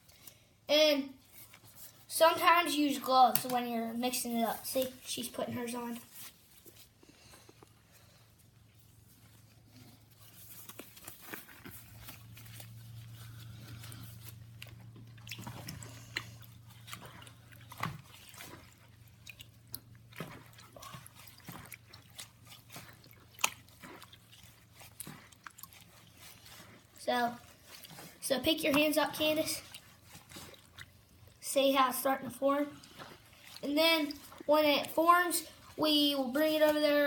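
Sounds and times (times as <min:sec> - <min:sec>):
slime squelching: 0:01.1 - 0:37.0.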